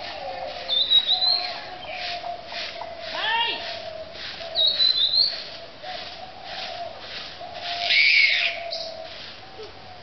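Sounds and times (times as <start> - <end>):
birds calling: 0.0 - 10.0
broom sweeping leaves on dirt: 0.0 - 10.0.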